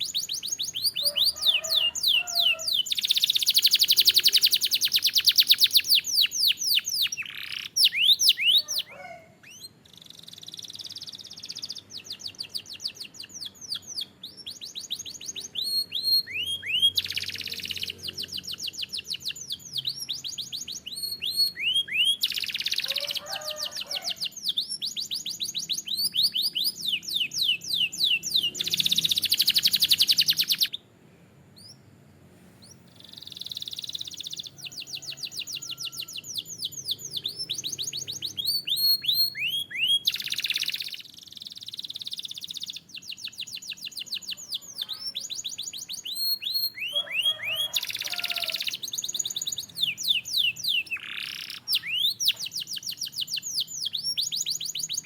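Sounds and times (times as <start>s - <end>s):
canary singing trills: 0.0s - 30.9s, 31.6s - 31.9s, 32.6s - 55.0s.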